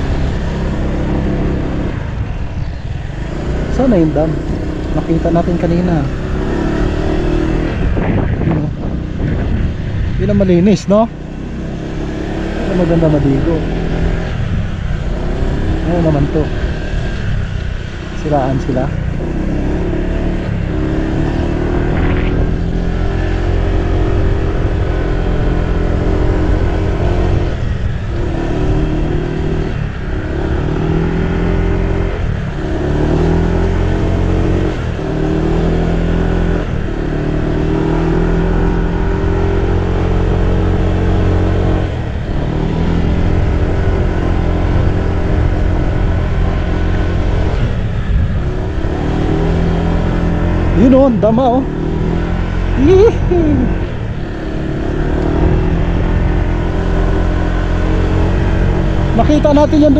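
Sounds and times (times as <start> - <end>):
car engine running: 0.0 - 59.9
road noise: 0.0 - 59.9.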